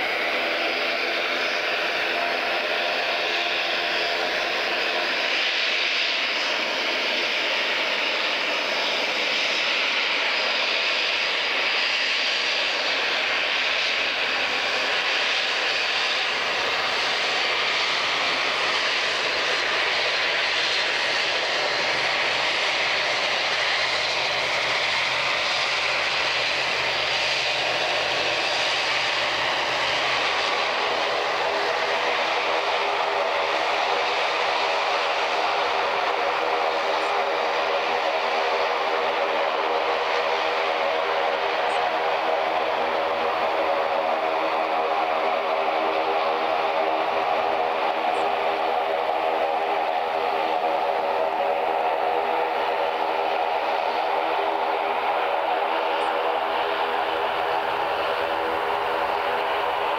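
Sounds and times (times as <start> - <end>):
airliner engines running: 0.0 - 59.9.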